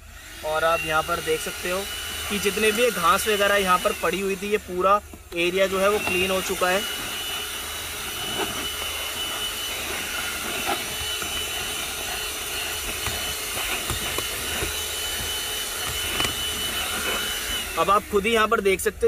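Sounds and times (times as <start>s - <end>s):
handheld vacuum cleaner running: 0.0s - 18.8s.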